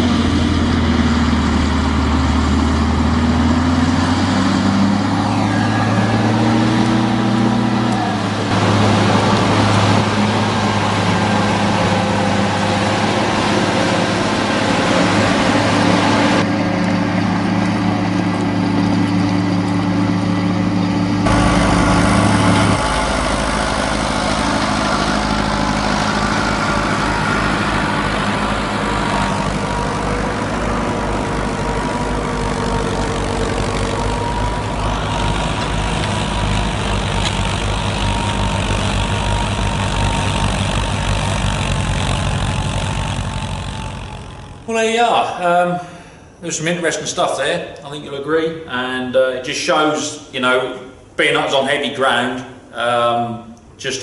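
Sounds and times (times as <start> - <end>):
engines running: 0.0 - 54.0.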